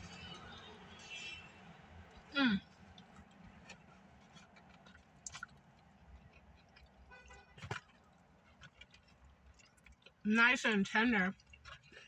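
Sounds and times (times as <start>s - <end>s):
faint chewing and lip-smacking: 1.9s - 12.0s.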